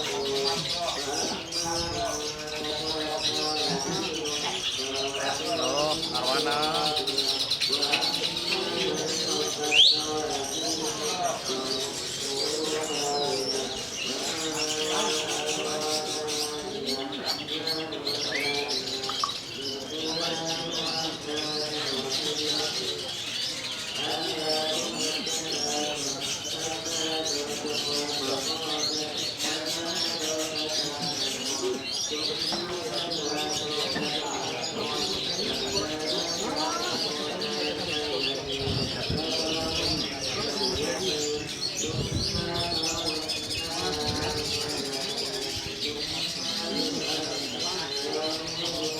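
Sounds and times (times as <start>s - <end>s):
birds chirping and trilling: 0.0s - 48.9s.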